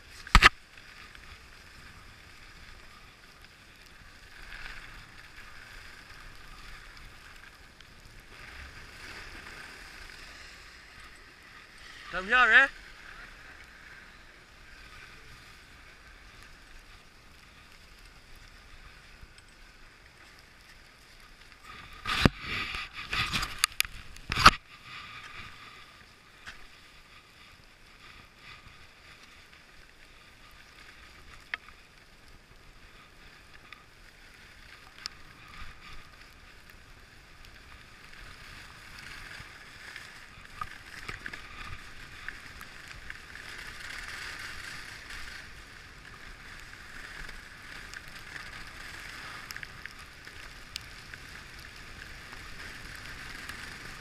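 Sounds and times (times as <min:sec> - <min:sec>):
skis scraping over snow: 0:00.0 - 0:54.0.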